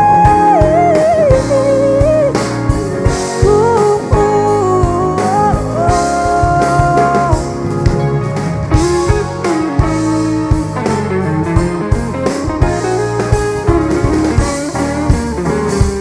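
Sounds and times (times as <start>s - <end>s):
guitar: 0.0s - 16.0s
lead melody with bending notes: 0.0s - 16.0s
steady drum beat: 0.0s - 16.0s.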